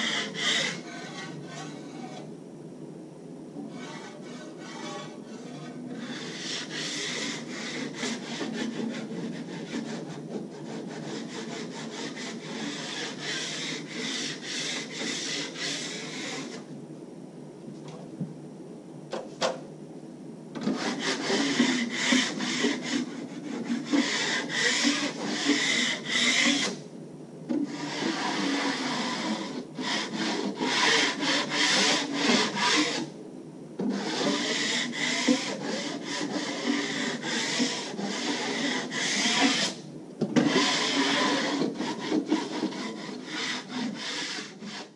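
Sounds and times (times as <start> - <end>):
drywall knife scraping compound: 0.0 - 2.3, 3.6 - 16.7, 20.6 - 26.8, 27.5 - 33.1, 33.8 - 44.9.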